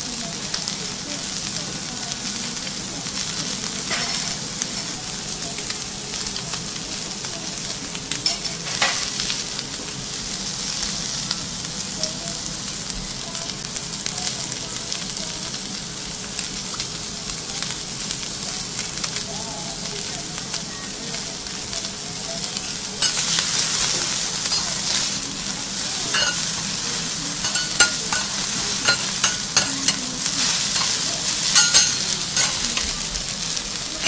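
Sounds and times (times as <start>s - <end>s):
food sizzling on a griddle: 0.0s - 34.0s.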